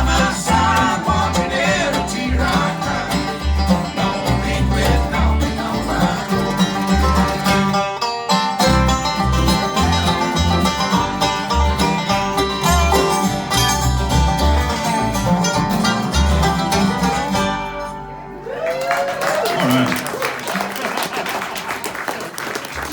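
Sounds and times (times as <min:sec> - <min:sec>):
bluegrass band playing: 0:00.0 - 0:22.0.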